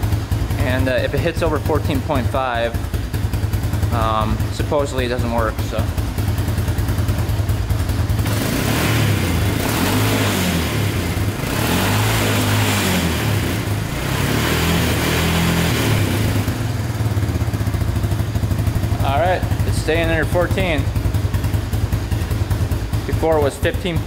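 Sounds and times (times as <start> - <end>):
atv engine idling and revving: 0.0 - 24.0.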